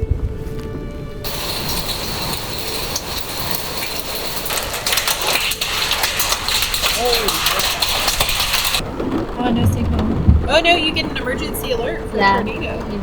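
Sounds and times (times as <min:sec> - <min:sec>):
heavy rain on hard surface: 0:00.6 - 0:13.0.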